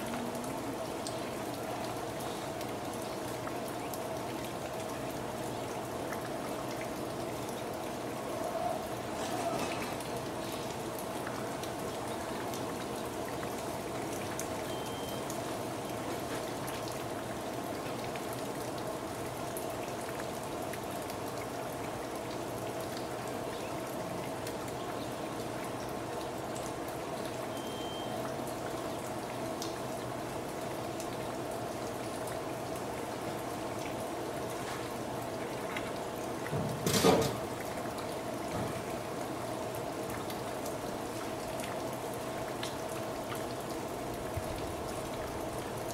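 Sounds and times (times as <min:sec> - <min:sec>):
running and splashing water: 0:00.0 - 0:27.5, 0:28.1 - 0:45.9
drip-like ticks: 0:00.1 - 0:07.9, 0:10.0 - 0:34.6, 0:37.6 - 0:45.0.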